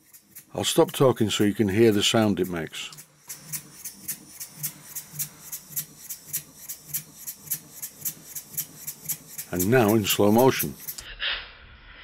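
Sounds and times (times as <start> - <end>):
model steam engine exhaust chuffs: 0.0 - 11.0.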